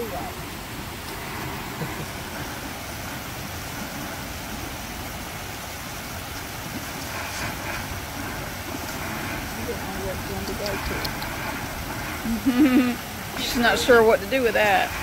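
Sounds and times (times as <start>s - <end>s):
garden hose spraying water: 0.0s - 15.0s
low rumble: 0.0s - 15.0s.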